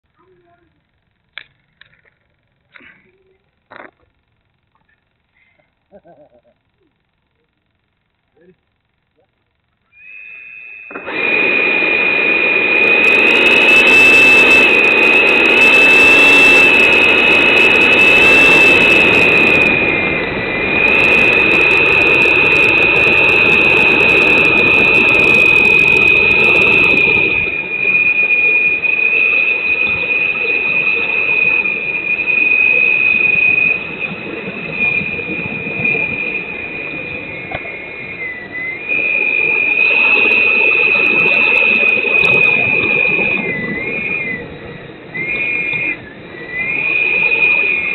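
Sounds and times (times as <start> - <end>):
electric ducted fans whining: 0.1 - 47.9.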